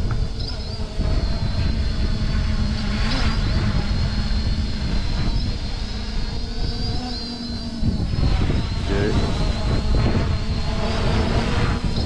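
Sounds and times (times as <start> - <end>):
drone propellers humming: 0.0 - 12.0
wind on microphone: 0.0 - 12.0.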